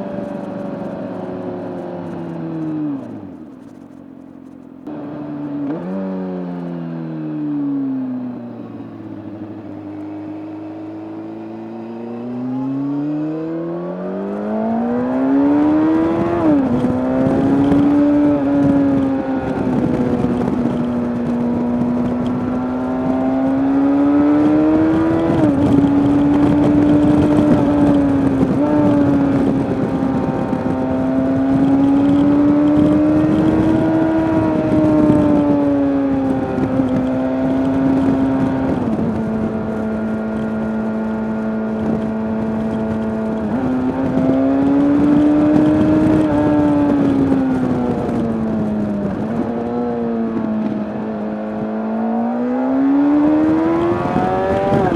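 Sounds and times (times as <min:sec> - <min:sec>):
motorcycle engine revving: 0:00.0 - 0:54.9
wind rush: 0:09.4 - 0:54.9.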